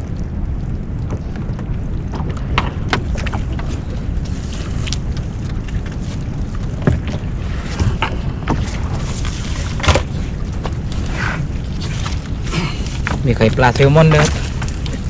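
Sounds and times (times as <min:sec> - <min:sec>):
boat engine rumble: 0:00.0 - 0:15.0
wind on microphone: 0:00.0 - 0:15.0.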